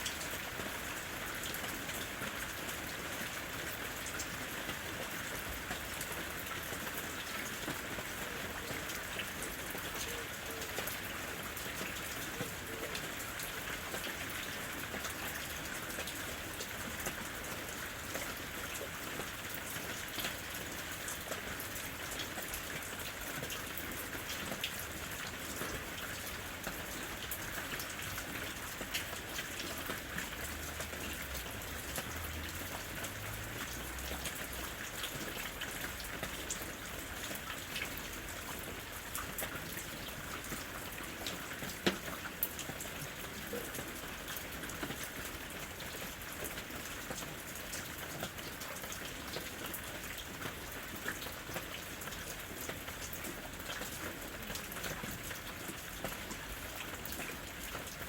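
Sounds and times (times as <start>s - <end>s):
raindrops ticking close by: 0.0s - 58.0s
steady rain falling: 0.0s - 58.0s.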